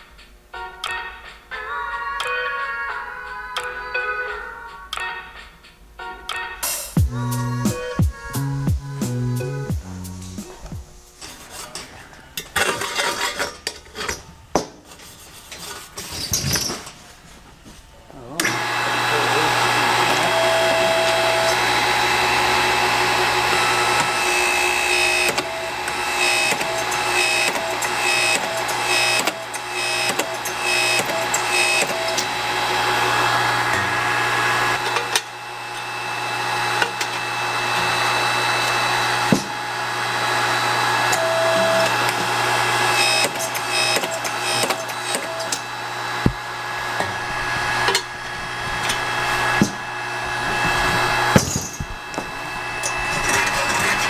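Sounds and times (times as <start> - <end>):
shop machinery humming: 7.0 - 16.1, 17.5 - 54.0.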